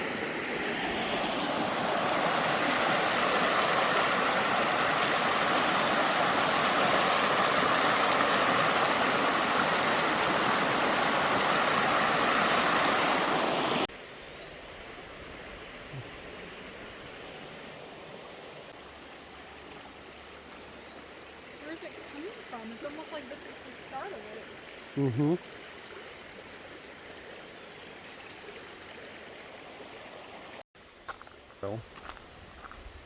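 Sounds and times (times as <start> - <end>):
stream flowing: 0.0 - 33.0.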